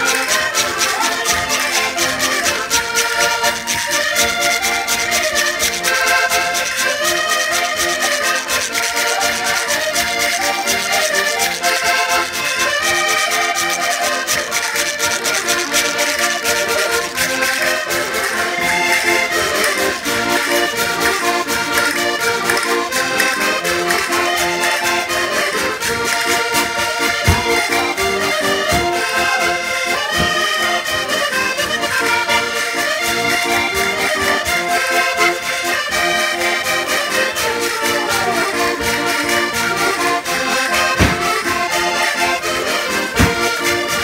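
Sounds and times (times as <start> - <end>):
button accordions playing folk tune: 0.0 - 44.0.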